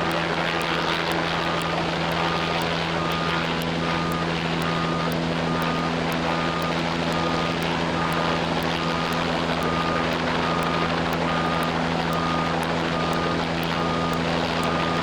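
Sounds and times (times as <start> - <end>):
short high warning beeps: 1.6 - 15.0.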